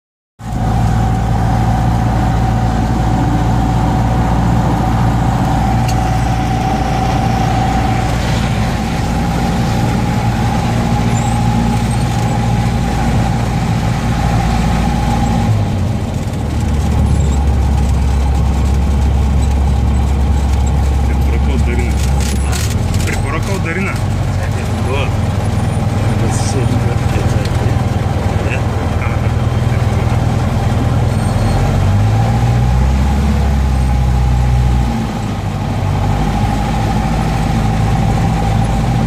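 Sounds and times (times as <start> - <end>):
airplane engine and propeller: 0.4 - 39.0.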